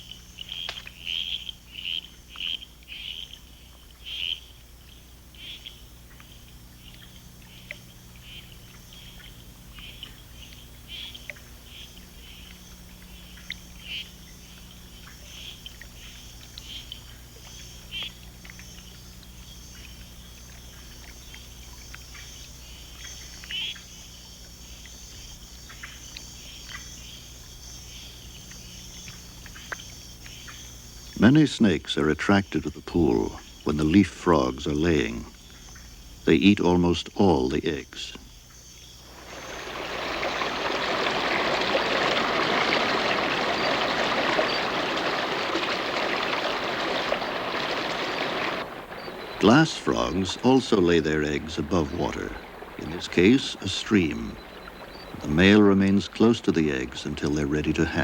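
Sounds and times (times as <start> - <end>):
frogs chirping: 0.0 - 58.0
insects droning: 0.0 - 58.0.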